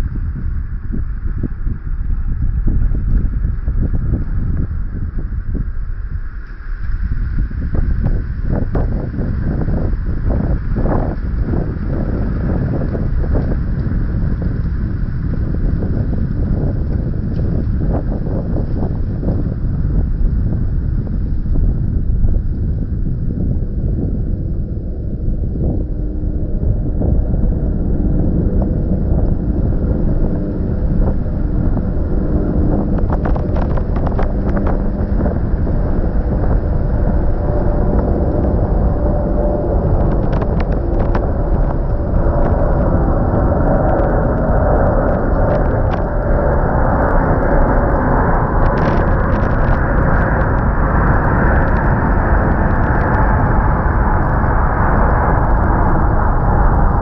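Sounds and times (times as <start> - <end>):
jet airliner taking off: 0.0 - 57.0.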